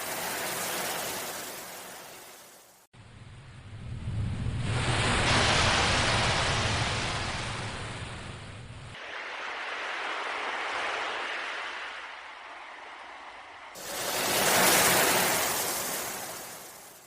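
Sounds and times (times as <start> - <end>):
sea waves washing in: 0.0 - 2.9, 3.7 - 17.0.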